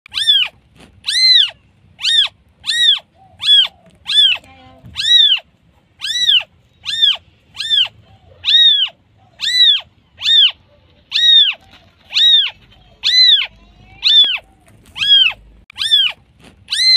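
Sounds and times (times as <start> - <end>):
kitten meowing: 0.1 - 16.9.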